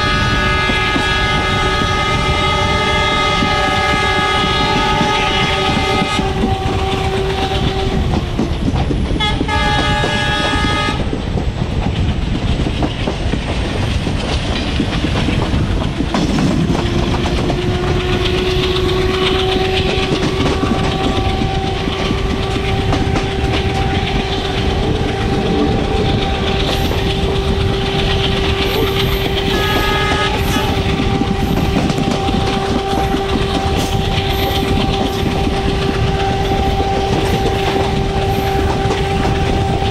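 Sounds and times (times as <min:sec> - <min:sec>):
locomotive horn: 0:00.0 - 0:08.3, 0:09.2 - 0:11.1, 0:16.8 - 0:39.9
train rumble and clickety-clack: 0:00.0 - 0:39.9.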